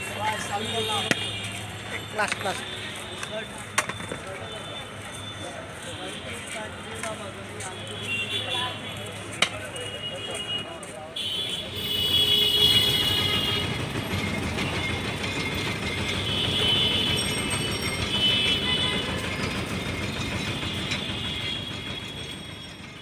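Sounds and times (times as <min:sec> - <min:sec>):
busy street traffic rumble: 0:00.0 - 0:23.0.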